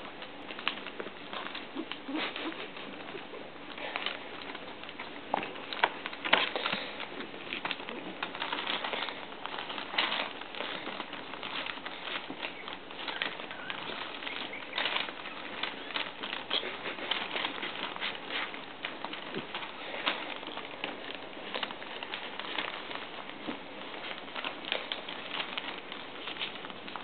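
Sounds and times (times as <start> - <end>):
newspaper crinkling and rustling: 0.0 - 27.0
puppies grunting: 0.0 - 27.0.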